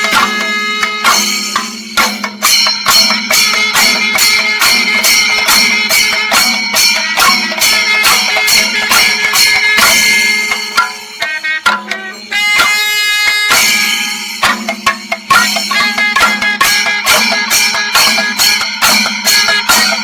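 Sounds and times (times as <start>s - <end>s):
cymbals ringing shimmer: 0.0s - 20.0s
drums beating: 0.0s - 20.0s.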